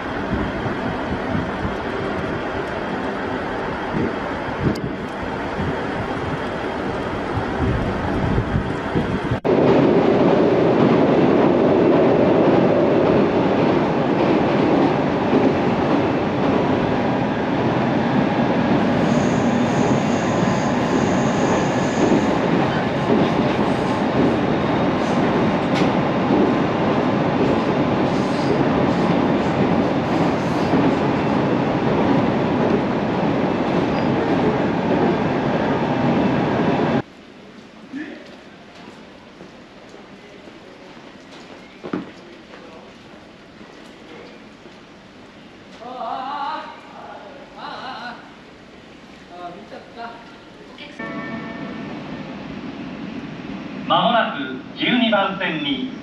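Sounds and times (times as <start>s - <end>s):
train running on rails: 0.0s - 56.0s.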